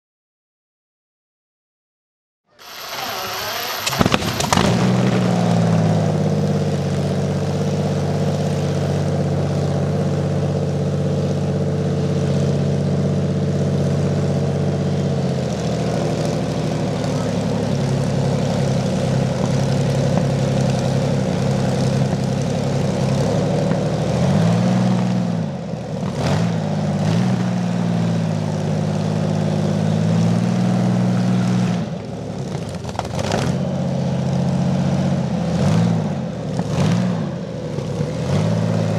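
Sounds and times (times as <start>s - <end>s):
tank engine running: 2.6s - 38.9s.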